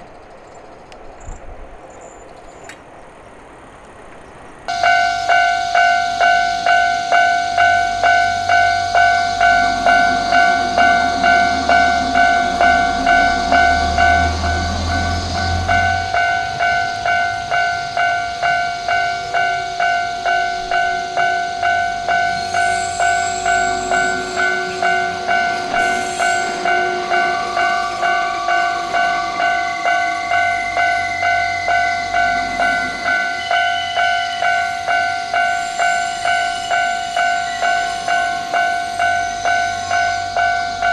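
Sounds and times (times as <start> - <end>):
train rumbling past: 0.0 - 40.9
level-crossing bell ringing: 4.7 - 40.9.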